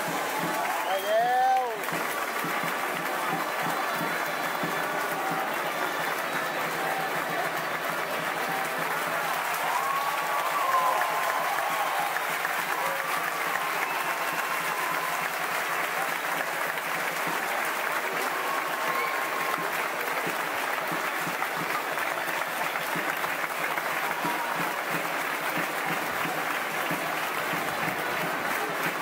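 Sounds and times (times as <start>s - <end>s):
crowd applauding: 0.0s - 29.0s.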